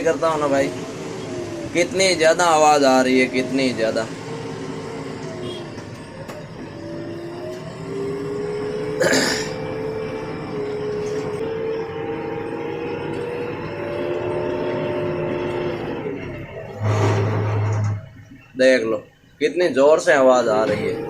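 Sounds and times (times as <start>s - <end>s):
machine engine running: 0.0s - 18.3s
brakes whining: 0.0s - 19.4s, 20.0s - 21.0s.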